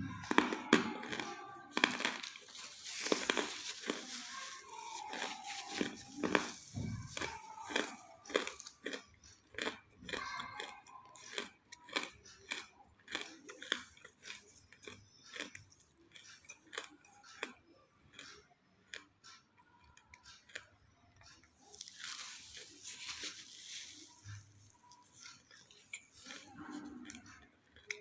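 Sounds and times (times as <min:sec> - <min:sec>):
person chewing crunchy clay: 0:00.0 - 0:28.0.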